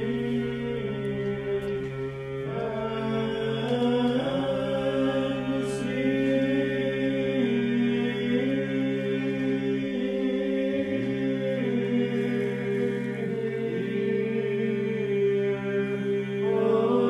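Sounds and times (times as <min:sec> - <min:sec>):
men chanting a hymn: 0:00.0 - 0:17.0.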